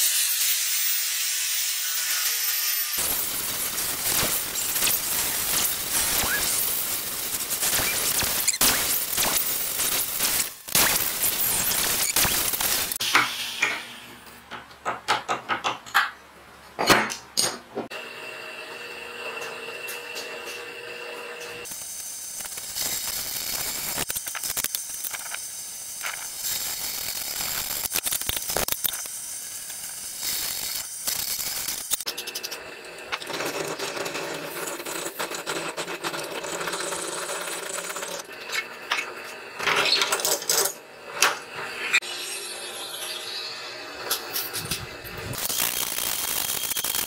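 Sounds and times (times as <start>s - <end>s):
drill press cutting steel: 3.0s - 13.8s, 18.0s - 47.0s.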